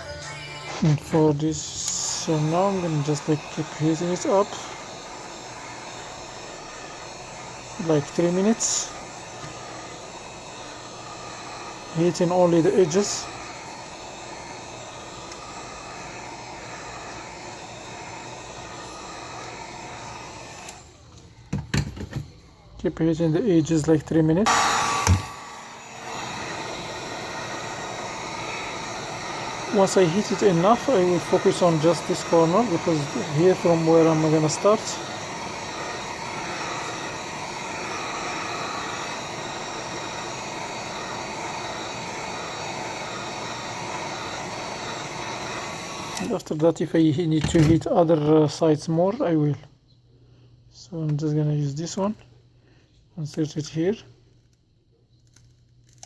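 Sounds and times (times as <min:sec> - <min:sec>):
heat gun blowing: 0:00.0 - 0:22.4, 0:23.6 - 0:46.6.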